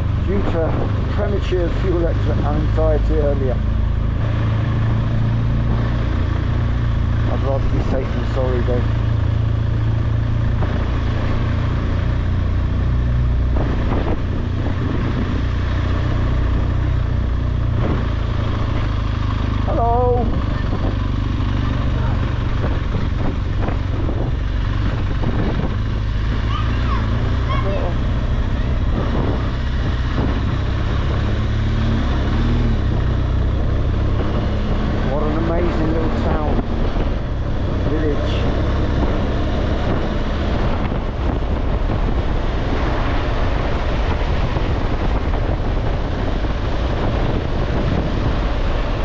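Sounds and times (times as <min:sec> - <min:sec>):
motorcycle engine cruising: 0:00.0 - 0:49.0
wind and road noise: 0:00.0 - 0:49.0.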